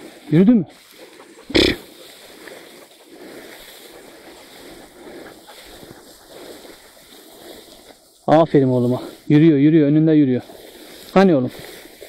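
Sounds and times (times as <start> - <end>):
rustling through dry field: 0.0 - 12.0.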